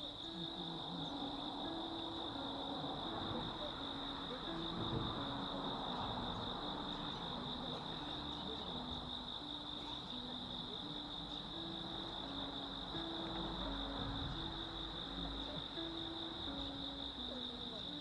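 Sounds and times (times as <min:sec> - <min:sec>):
insects trilling: 0:00.0 - 0:18.0
soft outdoor noise: 0:00.0 - 0:18.0.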